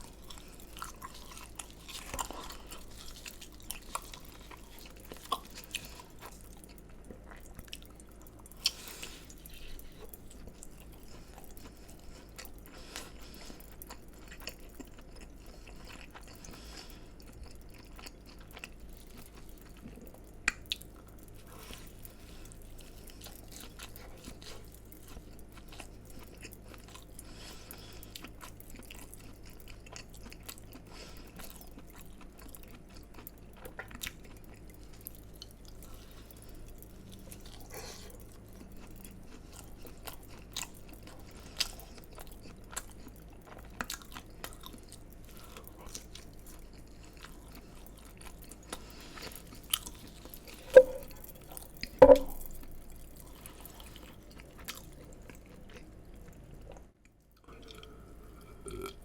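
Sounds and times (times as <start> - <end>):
chewing crispy fried food: 0.0 - 59.0.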